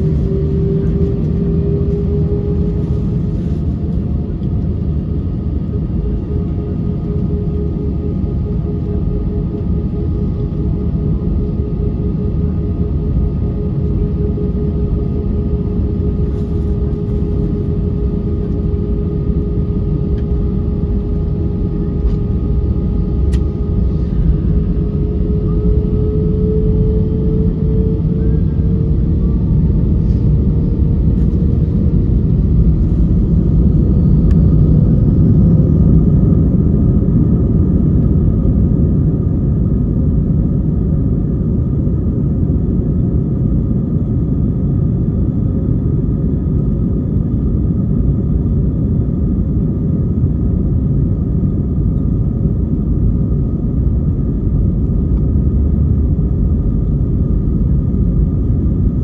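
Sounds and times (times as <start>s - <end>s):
airplane cabin rumble: 0.0s - 59.0s
jet engine whine: 0.0s - 59.0s.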